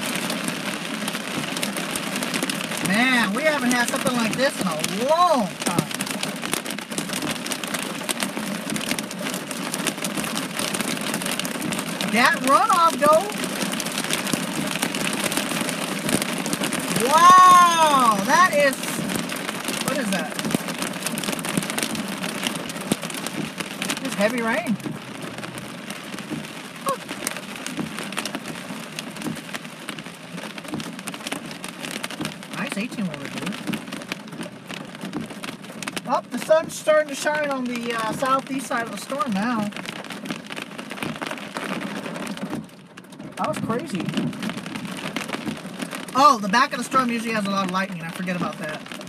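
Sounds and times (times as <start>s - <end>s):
heavy rain on hard surface: 0.0s - 49.0s.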